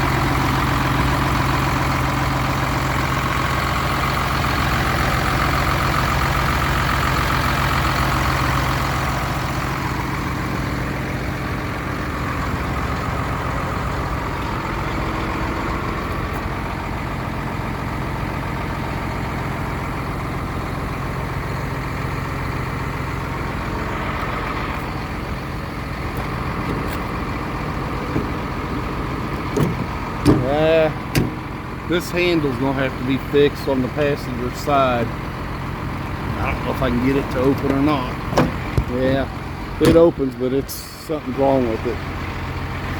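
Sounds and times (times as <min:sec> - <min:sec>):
truck diesel engine idling: 0:00.0 - 0:42.9.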